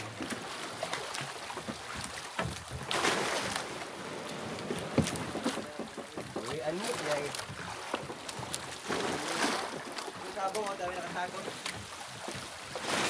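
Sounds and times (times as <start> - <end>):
sea water sloshing and splashing: 0.0 - 13.0.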